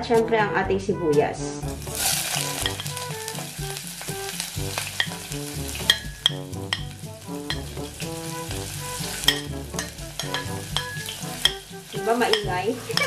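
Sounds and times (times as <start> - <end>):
onion sizzling in hot oil: 1.6 - 13.0.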